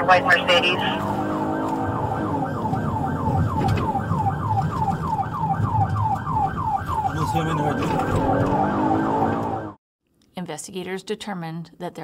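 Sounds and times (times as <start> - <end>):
car engine and road rumble: 0.0 - 9.7
police siren yelping: 0.0 - 9.8.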